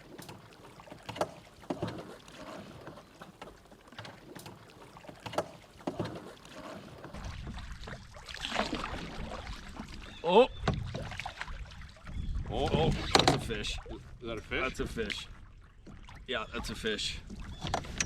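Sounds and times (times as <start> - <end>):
paddle knocking canoe: 0.0 - 18.0
paddle swishing through water: 0.0 - 18.0.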